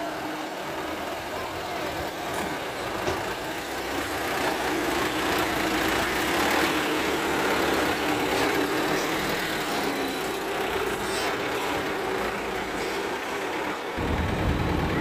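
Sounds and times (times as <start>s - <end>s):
dump truck driving past: 0.0s - 15.0s.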